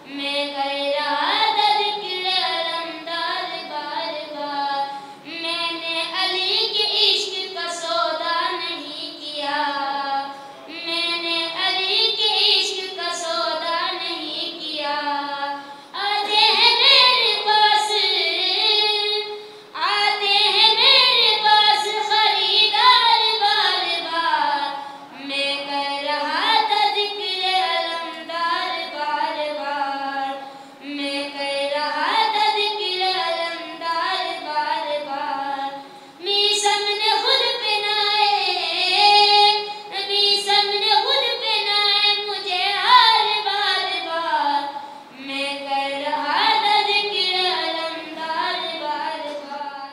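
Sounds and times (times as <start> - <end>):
boy singing into a microphone: 0.0 - 49.9.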